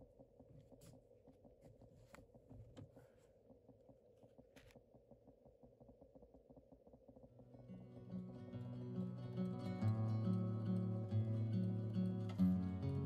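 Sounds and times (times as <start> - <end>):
faint steady drone: 0.0 - 13.0.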